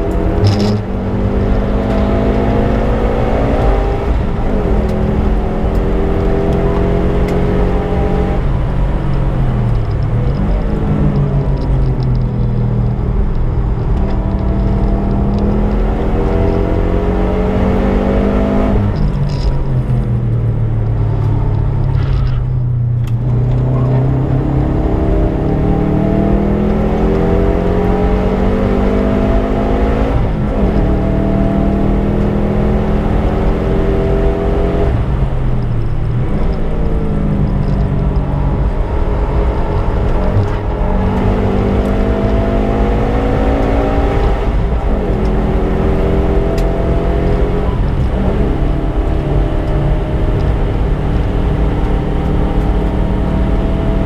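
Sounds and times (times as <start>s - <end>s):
turbocharged car engine revving: 0.0s - 54.0s.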